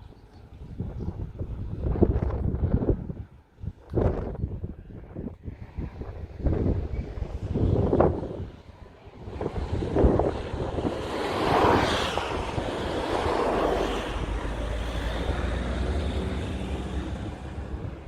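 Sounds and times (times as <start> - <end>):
wind blowing across microphone: 0.0 - 18.0.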